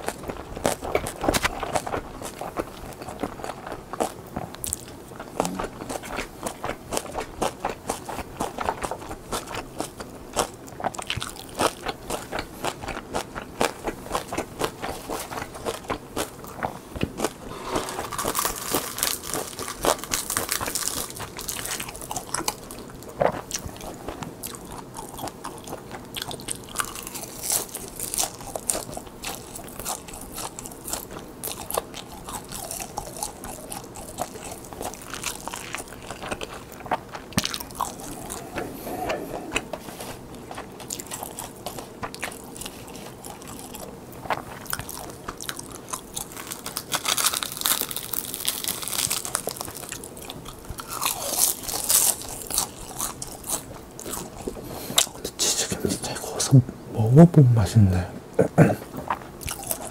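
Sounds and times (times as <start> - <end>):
crunching and chewing seaweed: 0.0 - 56.4, 58.8 - 59.9.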